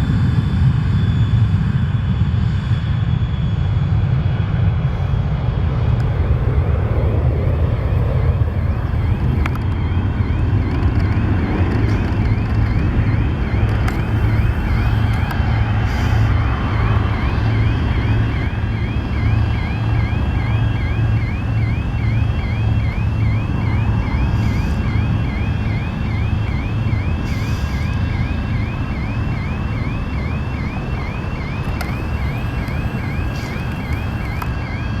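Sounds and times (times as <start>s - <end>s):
jet engines rumbling: 0.0s - 35.0s
wind on microphone: 5.7s - 35.0s.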